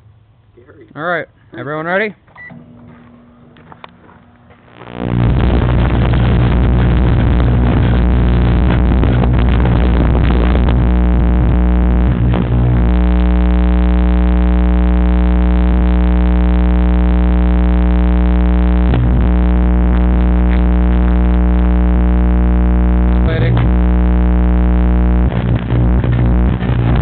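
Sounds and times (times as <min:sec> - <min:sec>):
microwave electrical buzz: 0:02.3 - 0:27.0.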